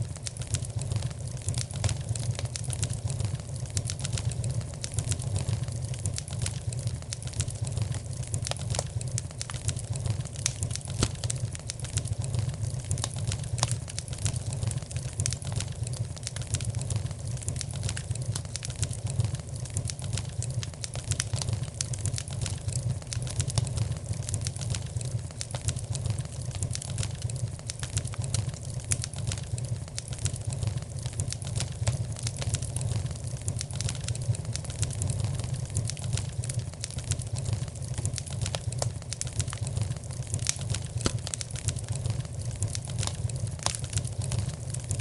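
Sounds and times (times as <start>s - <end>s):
low fire rumble: 0.0s - 45.0s
wood fire crackling: 0.0s - 45.0s.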